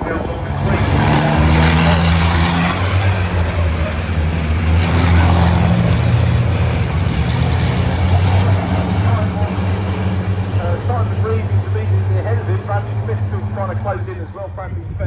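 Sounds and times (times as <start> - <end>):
diesel truck engines droning: 0.0 - 15.0.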